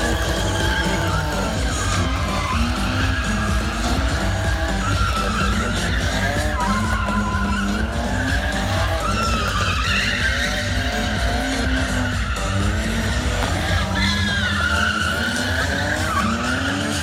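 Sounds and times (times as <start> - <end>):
loud background music: 0.0 - 17.0
tyres squealing: 0.0 - 17.0
vehicle engine revving: 0.0 - 17.0.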